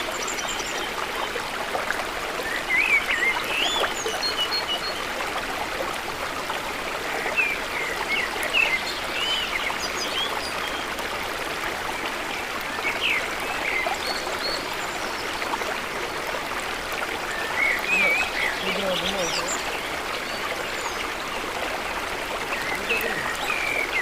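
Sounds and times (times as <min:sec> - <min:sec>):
stream water running: 0:00.0 - 0:24.0.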